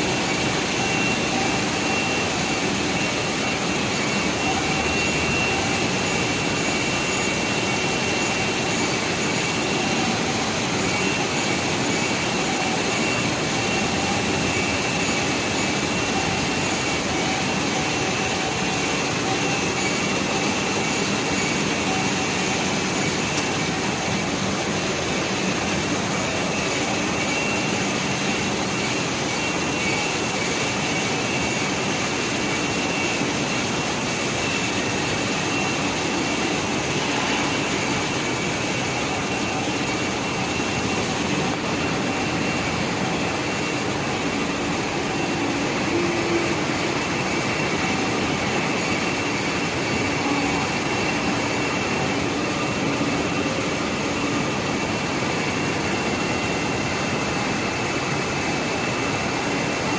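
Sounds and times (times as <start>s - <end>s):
factory machinery hiss and hum: 0.0s - 59.9s
faint high whine: 0.0s - 59.9s.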